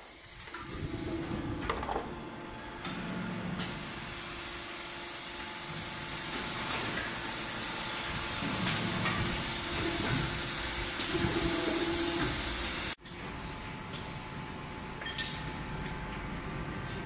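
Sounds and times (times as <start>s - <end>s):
hissing press machines: 0.0s - 14.4s.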